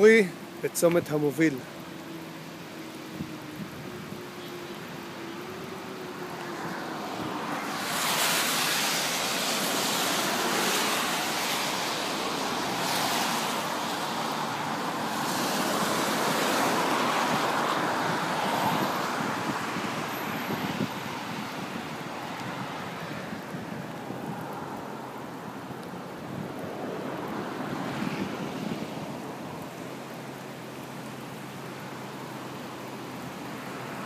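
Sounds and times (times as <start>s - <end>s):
floodwater rushing across road: 0.0s - 34.0s.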